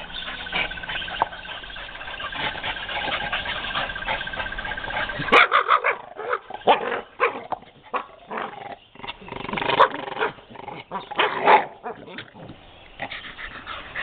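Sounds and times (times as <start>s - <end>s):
dogs barking and yipping: 0.0s - 14.0s.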